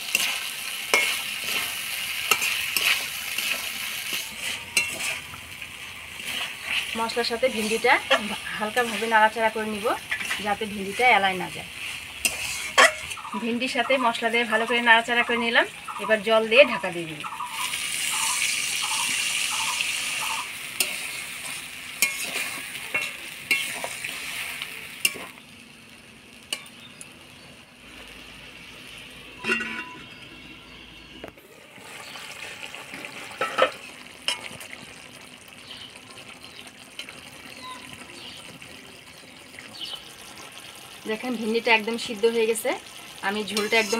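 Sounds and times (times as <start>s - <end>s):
food sizzling in a pan: 0.0s - 30.7s, 31.4s - 43.9s.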